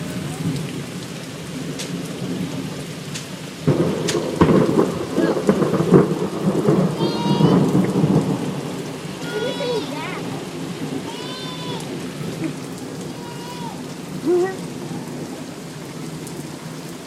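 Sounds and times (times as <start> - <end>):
crackling thunder rumble: 0.0 - 17.0
heavy rain: 0.0 - 17.0.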